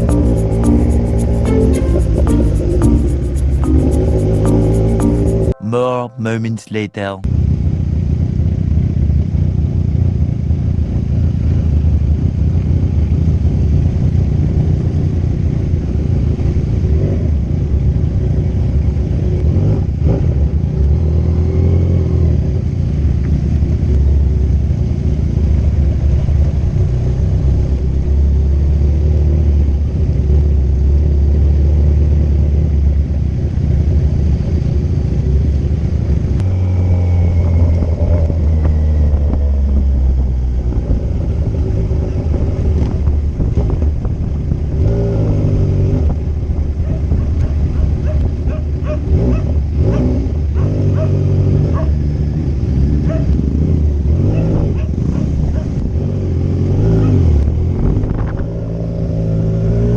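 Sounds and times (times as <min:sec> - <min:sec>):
road noise: 0:00.0 - 0:05.5, 0:07.6 - 0:59.9.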